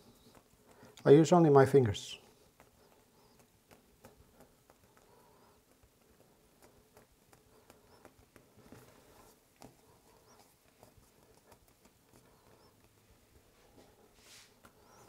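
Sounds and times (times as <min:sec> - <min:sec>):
fingers pressing fondant: 0:00.0 - 0:01.1, 0:02.2 - 0:15.0.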